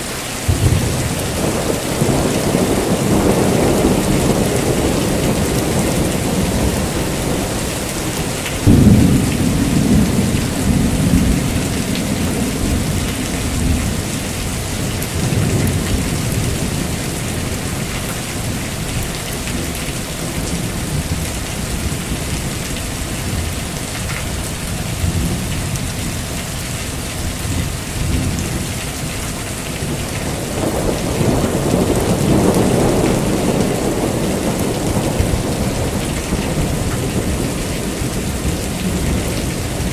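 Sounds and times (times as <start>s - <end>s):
heavy rain falling: 0.0s - 39.9s
thunderclap rumbling: 0.5s - 39.9s.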